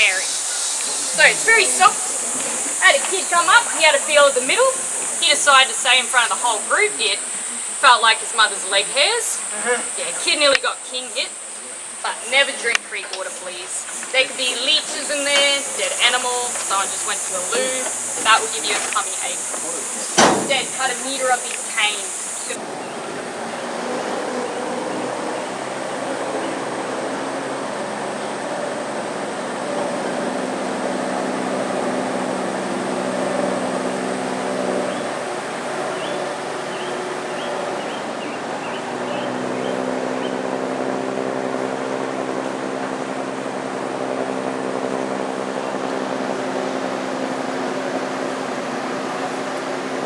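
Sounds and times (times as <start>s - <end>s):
vehicle engine droning: 0.0s - 50.0s.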